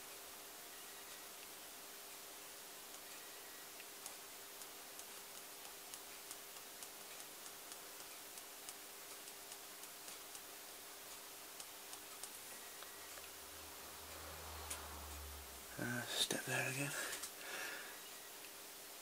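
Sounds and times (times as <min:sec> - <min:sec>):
low steady hum: 0:00.0 - 0:19.0
faint even ticking: 0:00.9 - 0:18.2.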